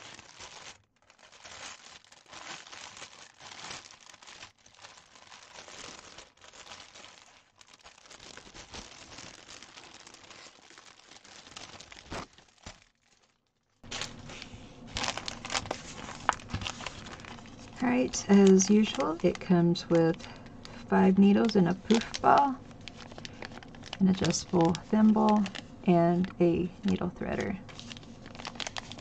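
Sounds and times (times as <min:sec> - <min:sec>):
paper sheets rustling: 0:00.0 - 0:29.0
plastic packaging crinkling: 0:00.0 - 0:29.0.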